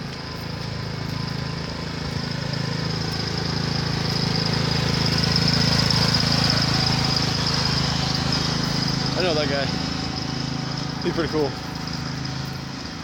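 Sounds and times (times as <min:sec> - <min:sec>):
riding lawn mower engine running: 0:00.0 - 0:13.0.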